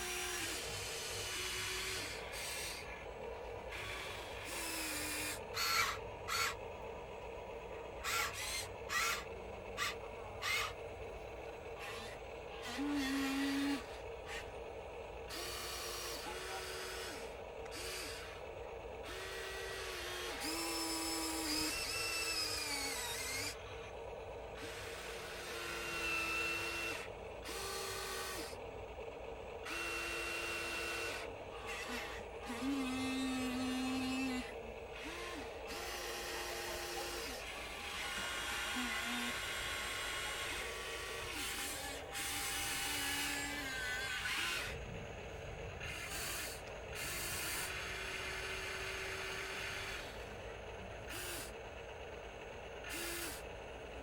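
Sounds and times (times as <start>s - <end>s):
small electric motors whining: 0.0s - 54.0s
steady background hum: 0.0s - 54.0s.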